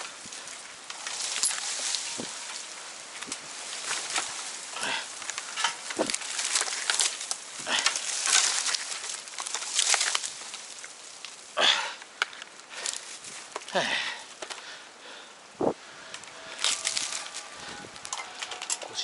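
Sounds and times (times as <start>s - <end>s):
sharp branch crack: 0.0s - 14.7s, 15.6s - 19.0s
leaves and branches rustling: 0.0s - 19.0s.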